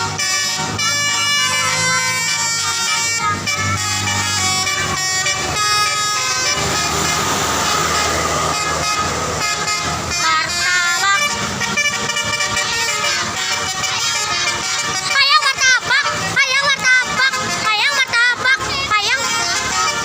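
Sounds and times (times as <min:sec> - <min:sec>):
multi-tone bus air horn tune: 0:00.0 - 0:20.0.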